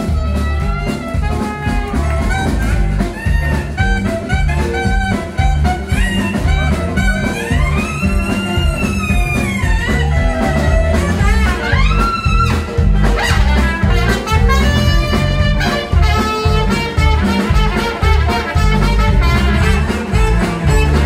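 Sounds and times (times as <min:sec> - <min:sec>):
drums: 0:00.0 - 0:21.0
electric guitar: 0:00.0 - 0:21.0
saxophone: 0:00.0 - 0:21.0
trumpet: 0:00.0 - 0:21.0.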